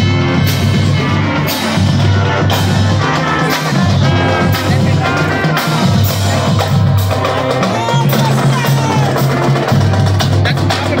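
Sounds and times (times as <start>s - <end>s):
drum hits: 0.0s - 11.0s
marching band brass: 0.0s - 11.0s.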